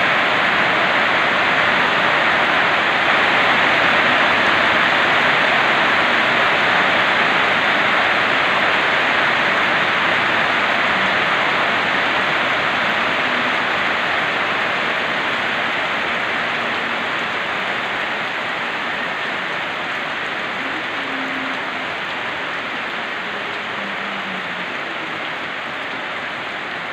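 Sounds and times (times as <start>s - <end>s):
heavy rain on metal roofs: 0.0s - 26.9s.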